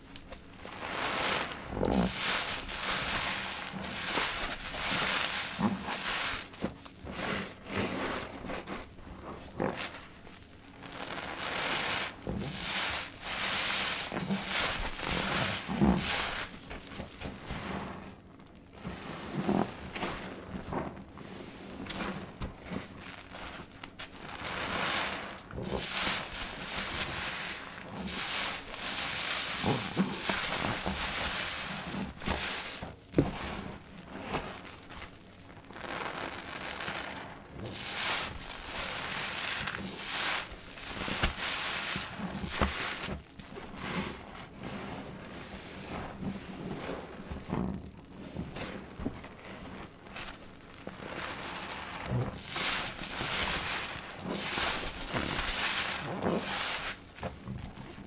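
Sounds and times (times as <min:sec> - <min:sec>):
sponges squishing in lather: 0:00.2 - 0:58.0.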